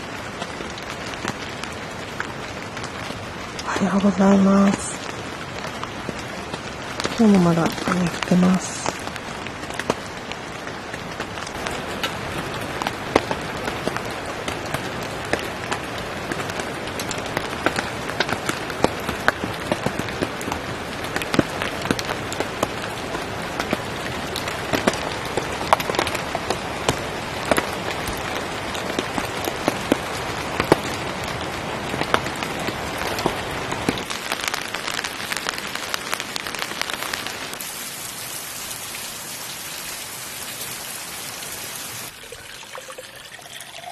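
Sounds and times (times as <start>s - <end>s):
rain drops pattering: 0.0s - 43.9s.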